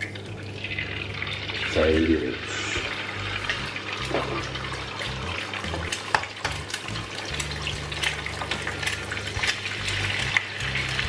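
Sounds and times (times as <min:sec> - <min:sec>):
oil popping and crackling: 0:00.0 - 0:02.2, 0:02.8 - 0:11.0
egg sizzling in oil: 0:00.0 - 0:11.0.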